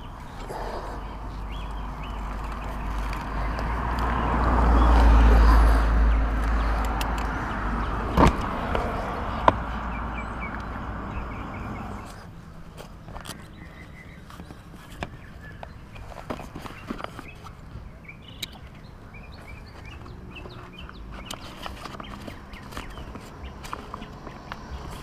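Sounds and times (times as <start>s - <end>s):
road vehicle passing: 0.0s - 25.0s.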